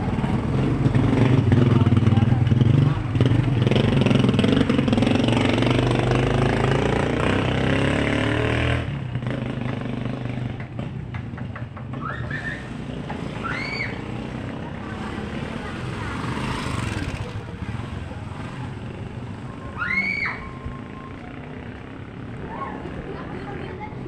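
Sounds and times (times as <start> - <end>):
motorcycle engine accelerating: 0.0 - 19.6
street noise: 0.0 - 24.0.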